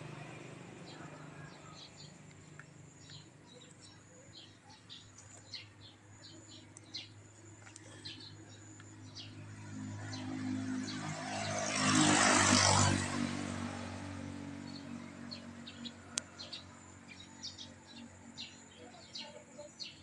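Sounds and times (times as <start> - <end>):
vehicle engine and road noise: 0.0 - 20.0
small birds chirping: 0.1 - 11.9, 14.0 - 20.0.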